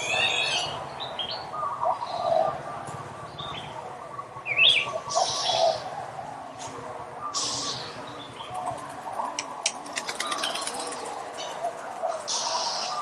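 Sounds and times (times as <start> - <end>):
birds chirping: 0.0 - 13.0
low bird calls: 0.0 - 13.0.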